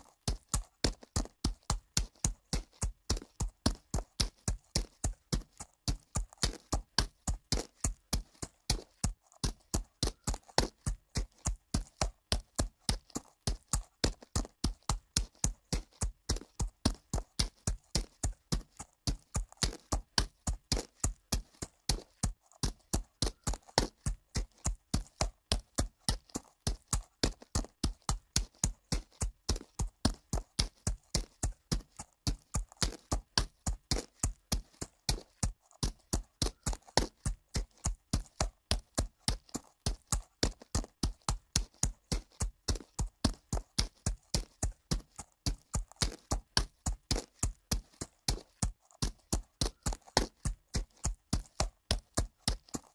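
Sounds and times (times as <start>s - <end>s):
horse hooves on dirt: 0.0s - 52.9s.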